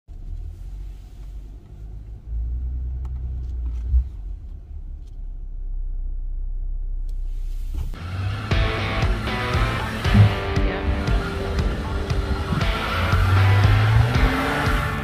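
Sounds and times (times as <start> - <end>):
vehicle driving low rumble: 0.1 - 15.0.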